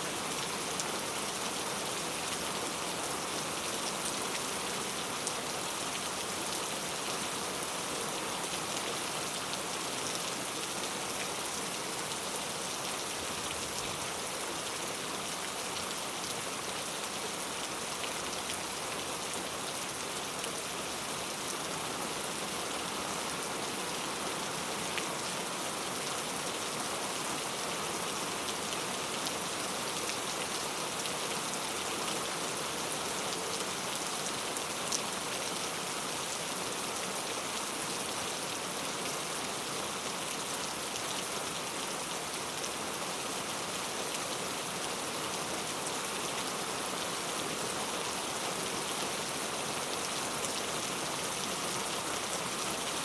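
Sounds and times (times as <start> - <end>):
heavy rain on street: 0.0 - 53.0.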